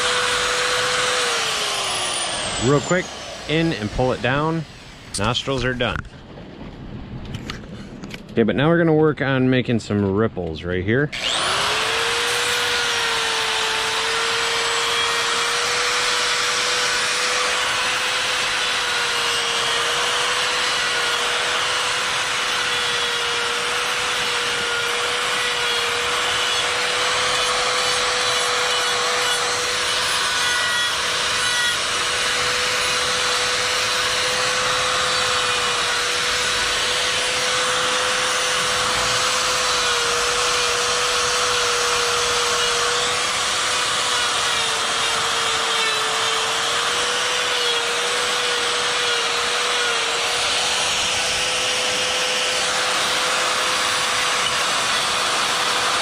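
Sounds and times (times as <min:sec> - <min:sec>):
die grinder grinding wood: 0:00.0 - 0:05.6, 0:11.2 - 0:56.0.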